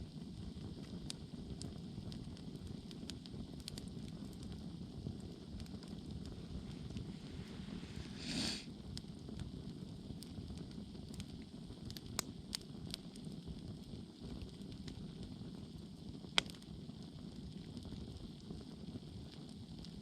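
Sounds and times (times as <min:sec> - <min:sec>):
campfire burning: 0:00.0 - 0:20.0
wood crackles: 0:00.0 - 0:20.0.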